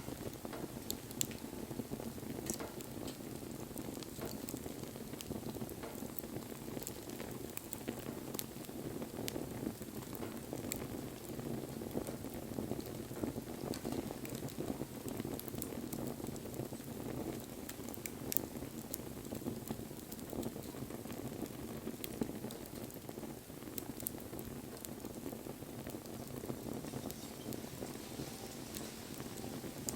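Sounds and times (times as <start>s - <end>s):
fire crackles and pops: 0.0s - 29.9s
low rush of flames: 0.0s - 29.9s.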